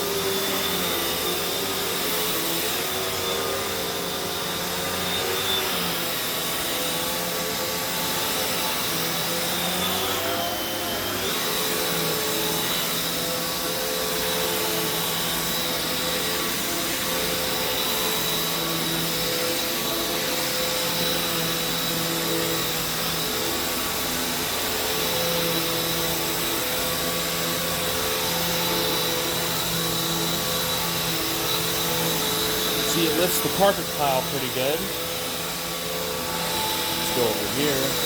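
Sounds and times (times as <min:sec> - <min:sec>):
vacuum cleaner on carpet: 0:00.0 - 0:38.0.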